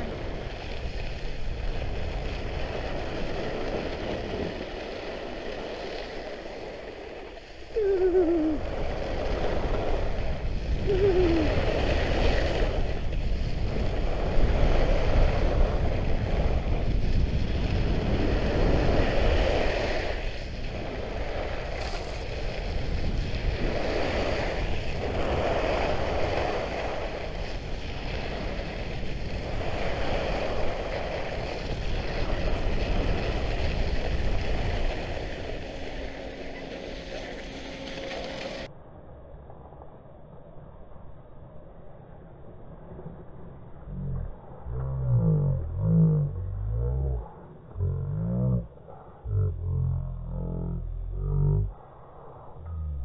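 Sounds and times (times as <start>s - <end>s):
wind on microphone: 0.0s - 38.7s, 42.9s - 53.0s.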